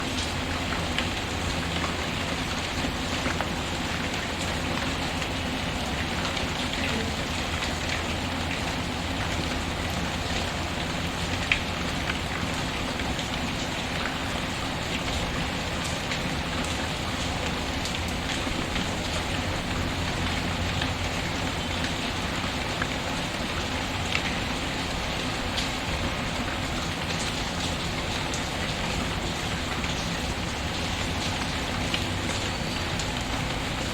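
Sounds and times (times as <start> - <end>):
steady rain pattering: 0.0 - 33.9.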